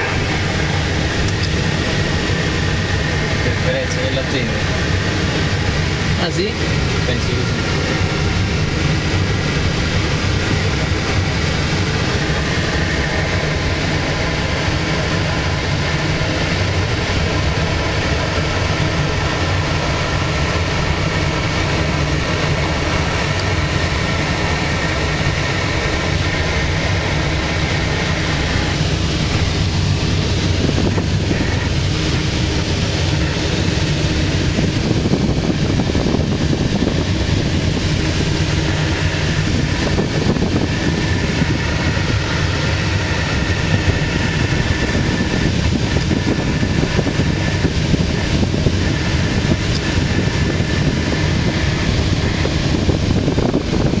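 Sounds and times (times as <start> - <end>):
air rushing over glider canopy: 0.0 - 54.0
wind buffeting microphone: 0.0 - 54.0.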